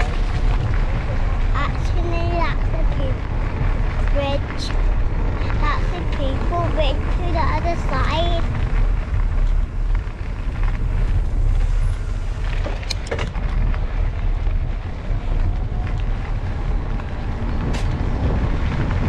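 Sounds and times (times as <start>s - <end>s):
bike clicks and rattles: 0.0s - 19.0s
bike tyres rolling on path: 0.0s - 19.0s
wind on microphone: 0.0s - 19.0s.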